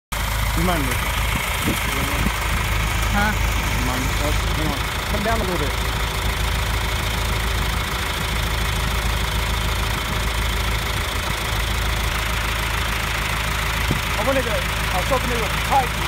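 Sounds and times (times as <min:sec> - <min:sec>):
tractor diesel engine idling: 0:00.1 - 0:16.0.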